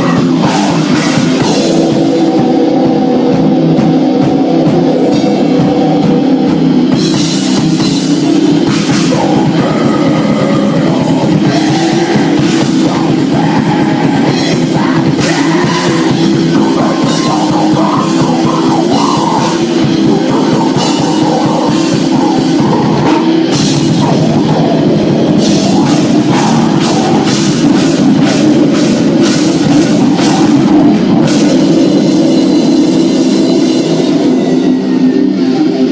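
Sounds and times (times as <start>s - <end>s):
heavy rock band playing: 0.0s - 35.9s.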